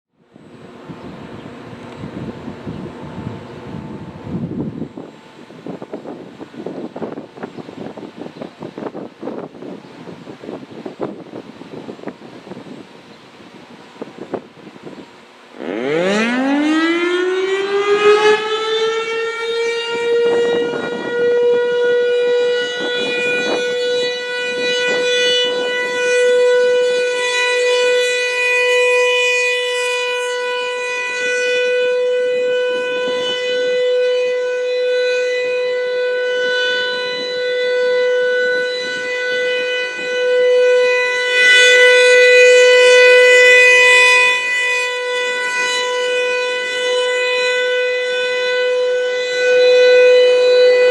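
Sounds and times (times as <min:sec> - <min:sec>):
warning siren steady tone: 0:00.1 - 0:50.9.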